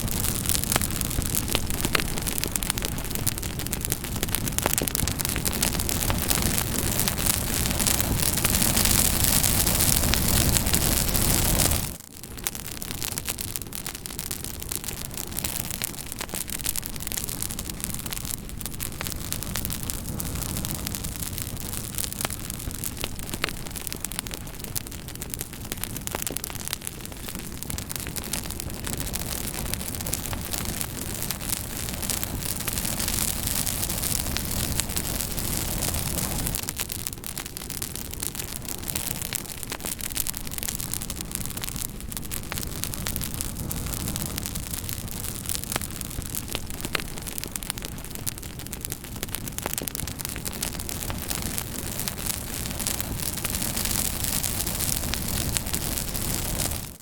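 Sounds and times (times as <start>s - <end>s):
campfire wood crackling and popping: 0.0s - 57.0s
hiss of flames: 0.0s - 57.0s.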